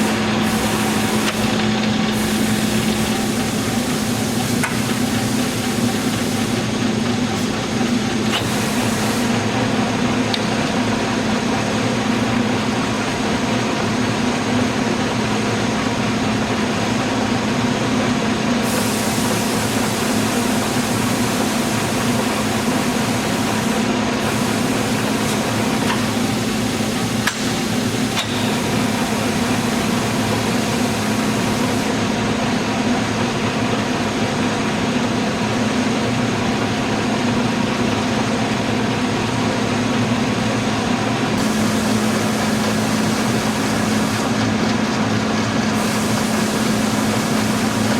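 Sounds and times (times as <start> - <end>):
lathe mechanical hum: 0.0 - 47.9.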